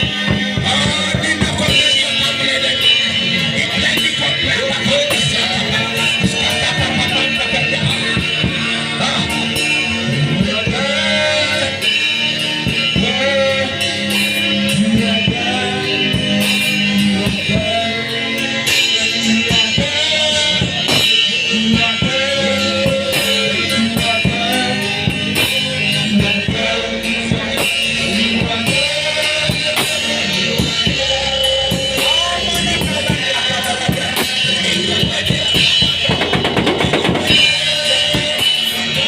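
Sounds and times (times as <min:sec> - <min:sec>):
band playing guitar and drums: 0:00.0 - 0:39.0
people singing: 0:00.0 - 0:39.0.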